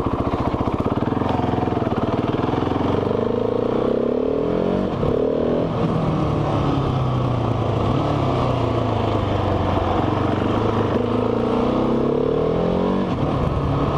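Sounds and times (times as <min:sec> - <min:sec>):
motorcycle engine: 0:00.0 - 0:13.9
wind and road noise: 0:00.0 - 0:13.9.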